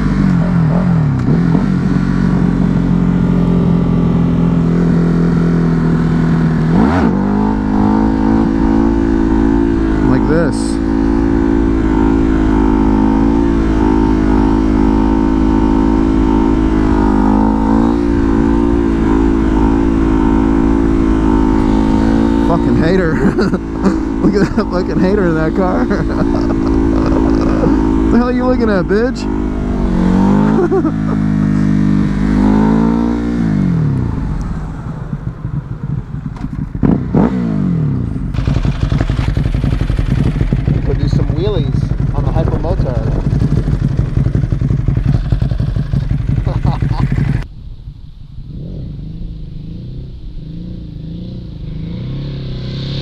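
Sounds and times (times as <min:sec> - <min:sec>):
motorcycle engine running: 0:00.0 - 0:47.5
low wind rumble: 0:00.0 - 0:53.0.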